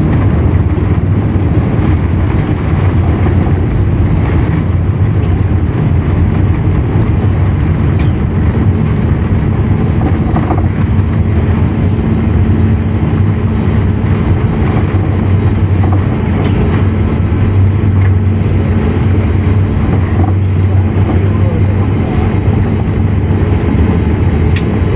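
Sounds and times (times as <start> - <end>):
low rumble of engines and wheels: 0.0 - 24.9
steady hum: 0.0 - 24.9.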